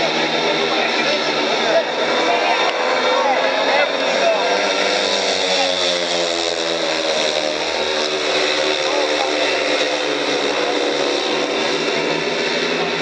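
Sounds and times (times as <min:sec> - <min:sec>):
motorcycles racing: 0:00.0 - 0:13.0.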